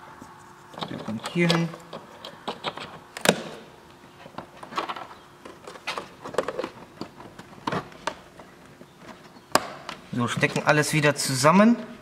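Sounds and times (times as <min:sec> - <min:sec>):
wiring rustling: 0:00.4 - 0:10.9.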